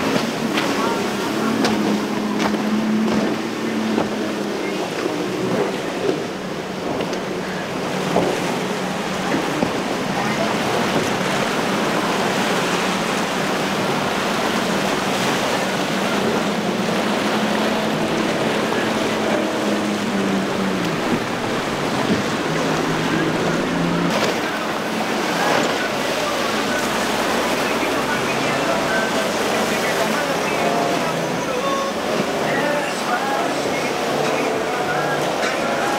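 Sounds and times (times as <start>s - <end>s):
outboard motor droning: 0.0s - 35.9s
waves rushing: 0.0s - 35.9s
wind: 0.0s - 35.9s.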